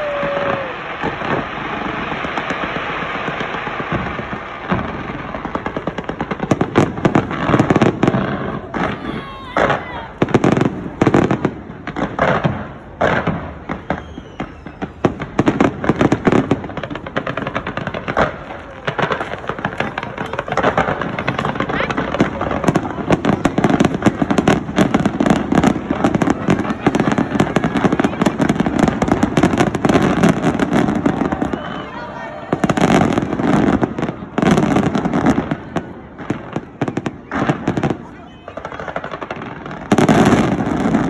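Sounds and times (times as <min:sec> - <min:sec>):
fireworks bangs: 0:00.0 - 0:41.0
fireworks crackling pops: 0:00.0 - 0:41.0.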